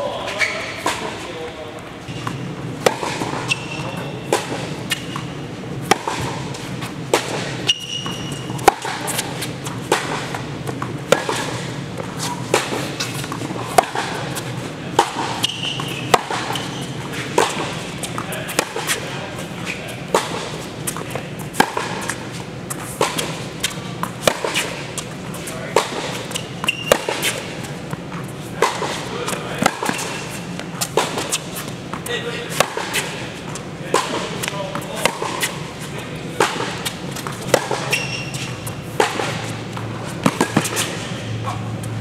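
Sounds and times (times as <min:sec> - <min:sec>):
sneakers squeaking on court: 0:00.1 - 0:01.2, 0:02.0 - 0:35.8, 0:36.5 - 0:42.0
racket striking tennis ball: 0:00.6 - 0:01.2, 0:02.1 - 0:42.0
tennis ball bouncing: 0:02.1 - 0:42.0.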